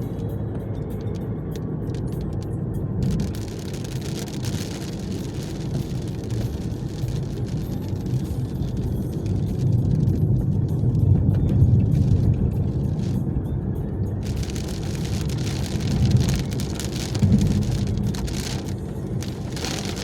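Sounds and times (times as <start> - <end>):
car tyres and engine rumbling: 0.0 - 20.0
heavy rain: 3.0 - 13.3, 14.2 - 20.0.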